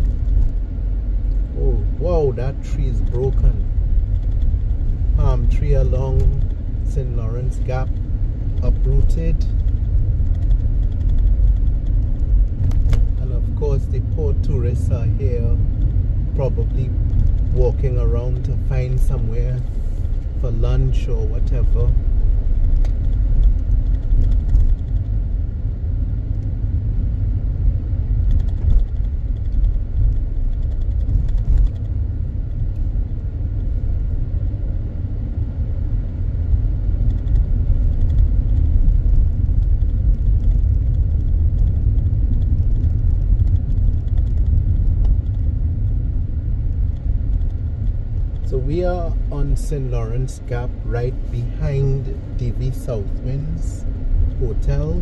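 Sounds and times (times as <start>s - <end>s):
car interior driving rumble: 0.0s - 55.0s.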